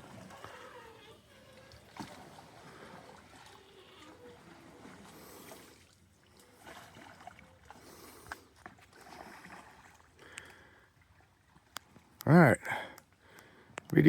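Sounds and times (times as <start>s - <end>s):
water sloshing: 0.0s - 12.2s.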